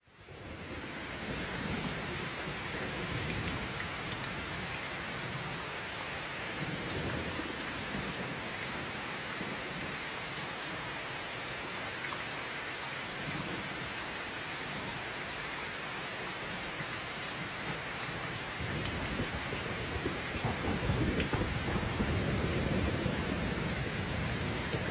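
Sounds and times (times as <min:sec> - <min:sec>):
heavy rain hissing: 0:00.2 - 0:24.9.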